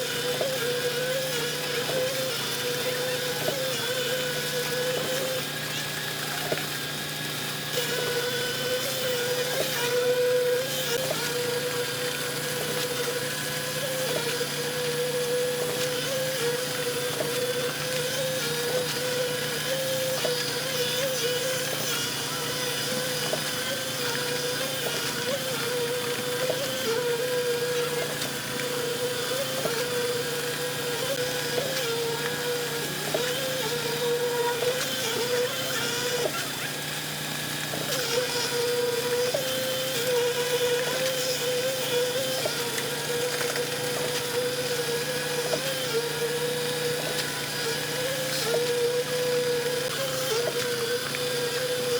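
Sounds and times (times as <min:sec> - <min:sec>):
construction machinery engine drone: 0:00.0 - 0:51.9.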